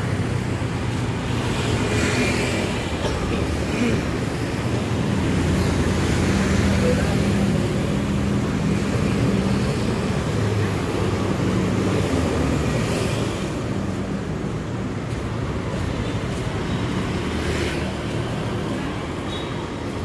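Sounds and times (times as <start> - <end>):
steady road noise: 0.0 - 20.0
vehicle engines running: 0.0 - 20.0.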